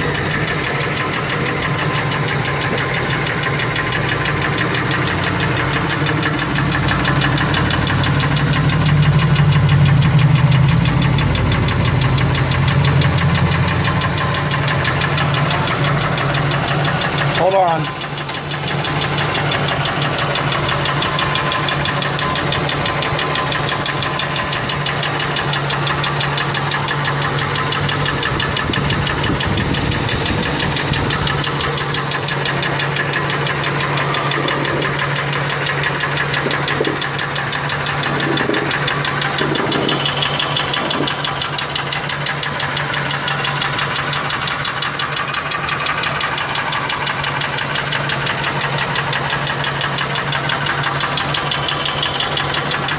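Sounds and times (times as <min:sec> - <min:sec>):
engine running: 0:00.0 - 0:52.9
rhythmic engine knock: 0:00.0 - 0:52.9.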